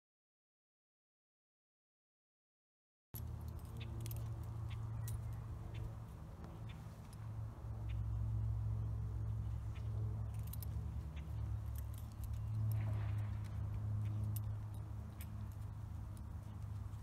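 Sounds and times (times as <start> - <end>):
dog leash and collar jingling: 3.2 - 17.0
steady low rumble: 3.2 - 17.0.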